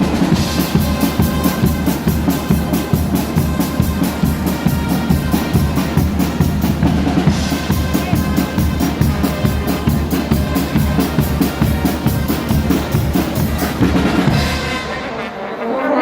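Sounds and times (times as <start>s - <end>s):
bass drum and snare beat: 0.0s - 15.1s
band playing loudly: 0.0s - 16.0s
sustained brass: 0.0s - 16.0s.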